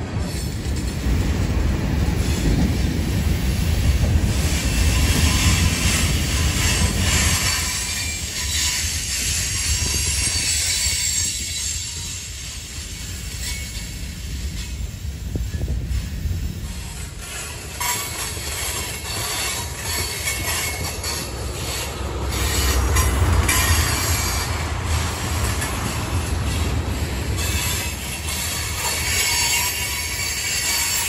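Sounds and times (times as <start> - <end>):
train wheels rumbling on rails: 0.0 - 31.0
wheel squeal: 4.3 - 31.0.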